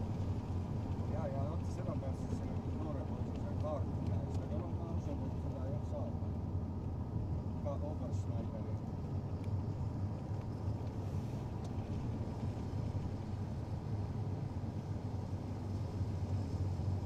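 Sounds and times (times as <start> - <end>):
road noise: 0.0 - 17.0
vehicle engine humming: 0.0 - 17.0.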